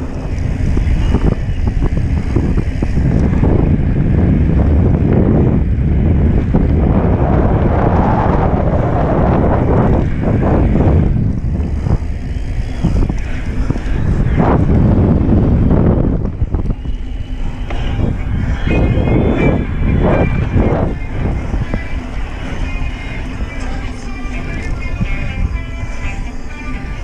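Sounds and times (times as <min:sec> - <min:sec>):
bike tyres rumbling over dirt: 0:00.0 - 0:27.0
wind buffeting microphone: 0:00.0 - 0:27.0.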